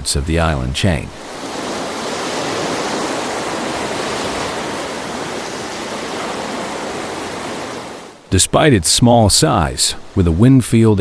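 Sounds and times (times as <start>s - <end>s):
floodwater rushing: 1.1s - 11.0s.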